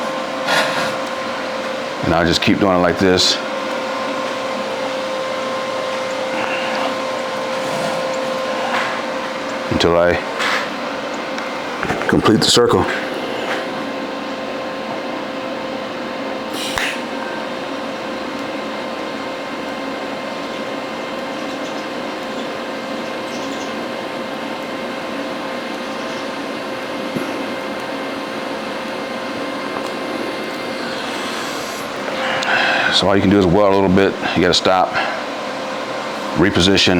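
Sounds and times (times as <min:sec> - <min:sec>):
welding arc hissing and whining: 0:00.0 - 0:23.0, 0:23.7 - 0:36.9.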